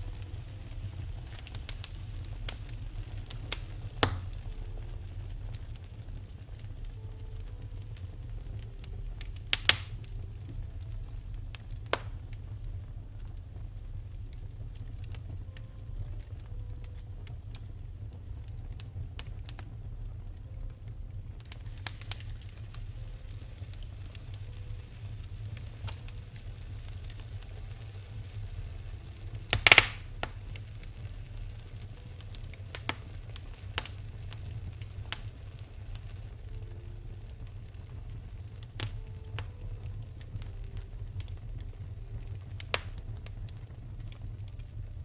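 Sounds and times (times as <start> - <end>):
fire crackling: 0.0 - 45.0
fire popping: 0.0 - 45.0
low rumble: 0.0 - 45.0.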